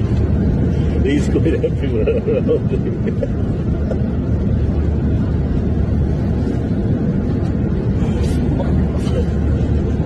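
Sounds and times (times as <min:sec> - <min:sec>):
airliner cabin roar: 0:00.0 - 0:10.0.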